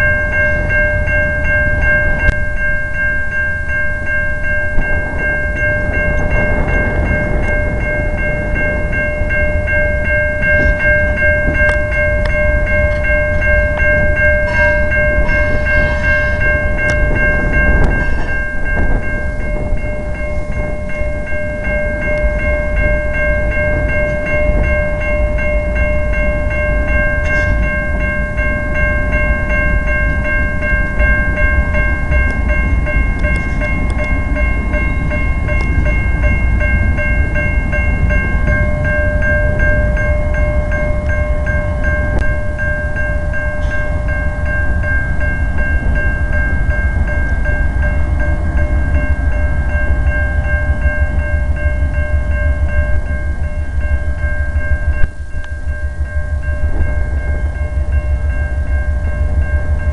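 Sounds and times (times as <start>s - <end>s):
diesel locomotives rumbling: 0.0s - 59.9s.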